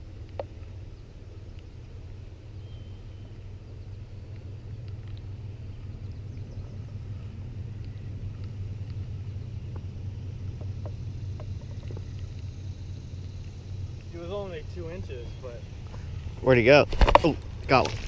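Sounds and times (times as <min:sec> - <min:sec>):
motor running low rumble: 0:00.0 - 0:18.0.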